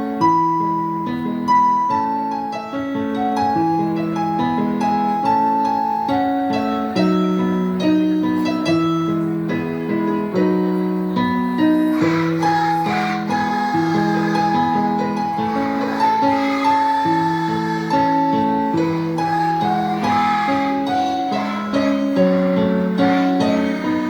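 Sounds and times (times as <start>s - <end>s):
keyboard melody over chords: 0.0s - 24.0s.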